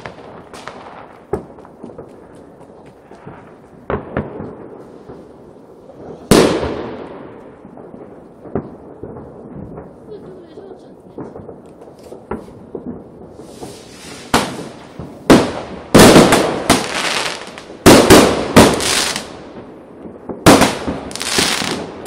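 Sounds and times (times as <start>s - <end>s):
firecracker crackles: 0.0s - 22.0s
fireworks bangs: 0.0s - 22.0s.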